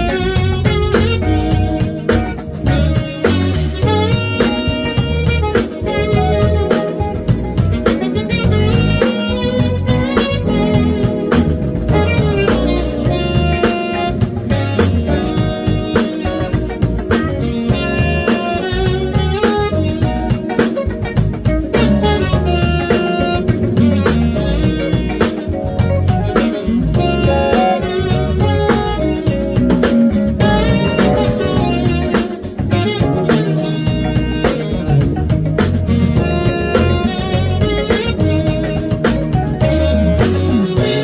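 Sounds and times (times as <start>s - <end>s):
electric guitar: 0.0s - 41.0s
live jazz band playing: 0.0s - 41.0s.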